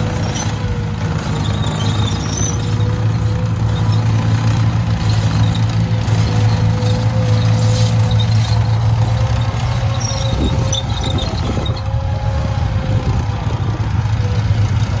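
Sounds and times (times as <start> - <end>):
tank engine running: 0.0 - 15.0.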